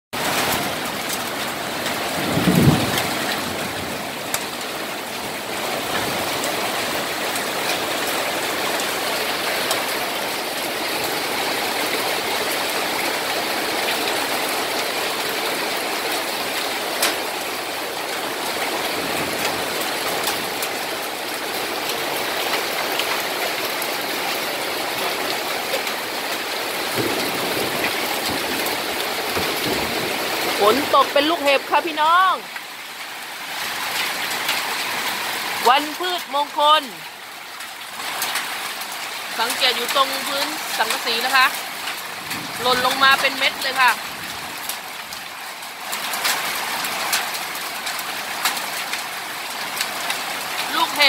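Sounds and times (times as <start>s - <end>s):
heavy rain on metal roof: 0.1s - 51.0s
hailstones clicking on metal: 0.2s - 30.9s, 37.6s - 51.0s.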